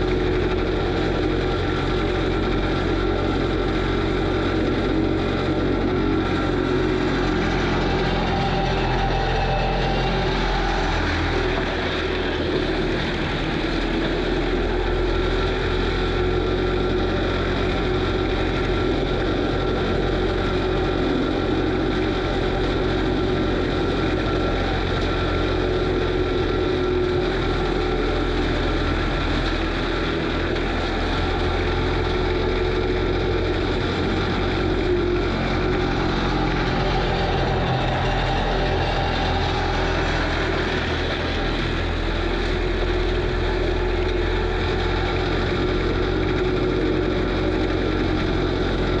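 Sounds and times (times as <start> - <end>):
diesel engine running under load: 0.0 - 49.0.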